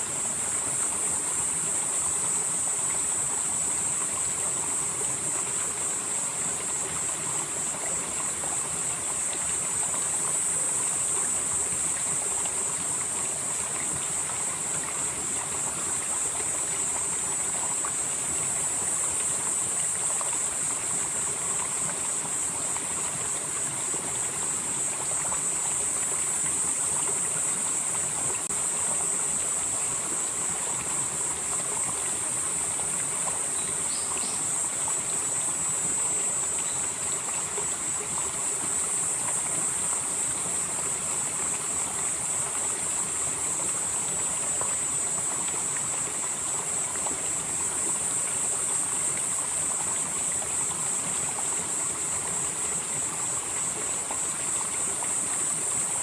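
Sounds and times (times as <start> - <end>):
insects trilling: 0.0 - 56.0
stream flowing: 0.0 - 56.0.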